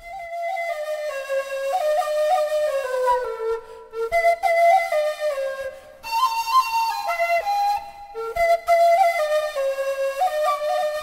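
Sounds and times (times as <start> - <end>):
flute melody: 0.0 - 11.0.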